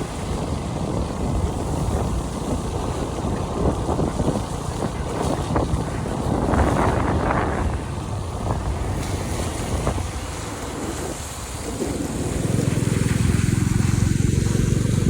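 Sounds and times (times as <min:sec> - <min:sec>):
vehicle on wet road: 0:00.0 - 0:15.0
wind on microphone: 0:00.0 - 0:15.0.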